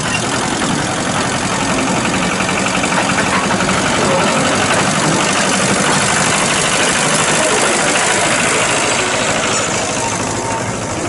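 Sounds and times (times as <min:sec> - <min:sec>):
small locomotive engine running: 0:00.0 - 0:11.0.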